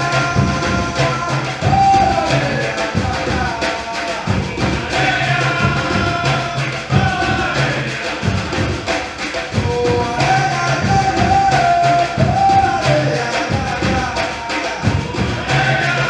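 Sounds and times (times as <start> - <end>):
voices singing held notes: 0.0 - 16.0.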